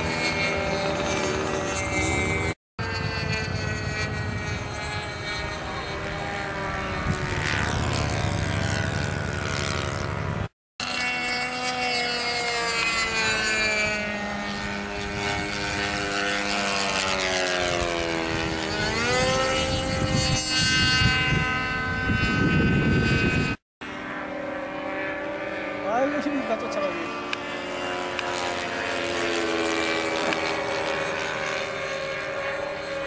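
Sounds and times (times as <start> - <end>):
model airplane engines running: 0.0 - 33.0.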